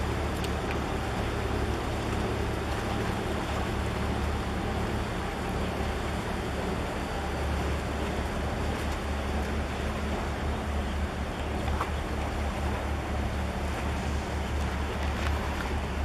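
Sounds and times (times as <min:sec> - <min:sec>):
ship engine drone: 0:00.0 - 0:16.0
water wash: 0:00.0 - 0:16.0.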